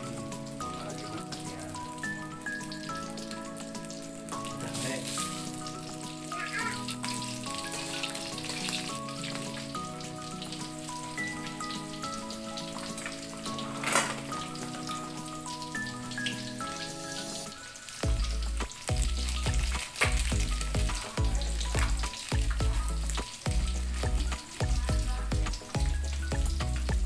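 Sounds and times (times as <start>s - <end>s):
background music: 0.0s - 27.0s
fish sizzling in oil: 0.0s - 27.0s.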